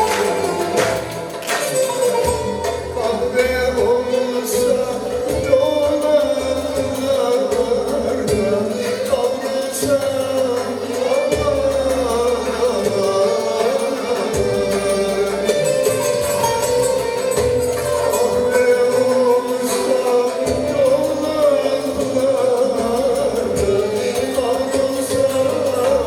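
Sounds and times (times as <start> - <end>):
instrumental ensemble: 0.0 - 26.0
man singing folk song: 2.6 - 17.1, 18.0 - 26.0.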